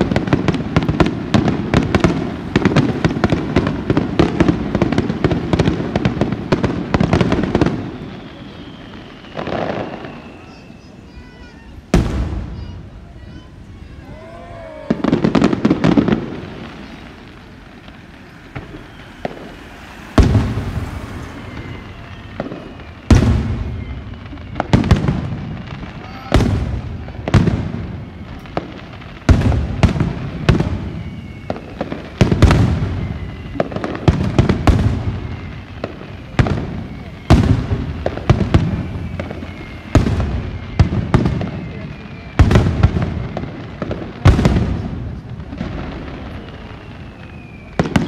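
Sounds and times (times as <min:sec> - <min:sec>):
firework shells booming: 0:00.0 - 0:48.0.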